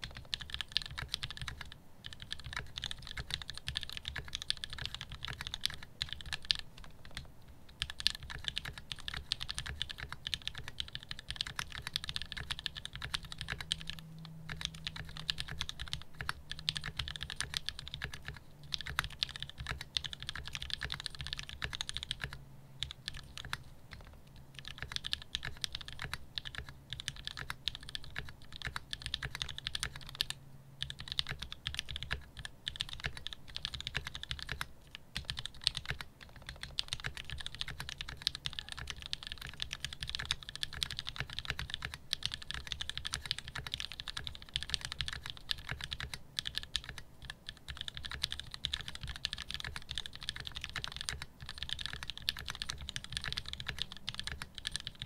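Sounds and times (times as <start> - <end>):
mechanical keyboard typing: 0.0 - 55.0.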